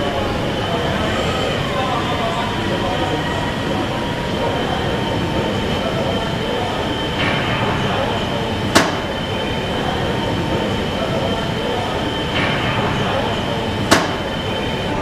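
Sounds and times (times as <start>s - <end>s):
faint high whine: 0.0s - 15.0s
machinery hum and rumble: 0.0s - 15.0s.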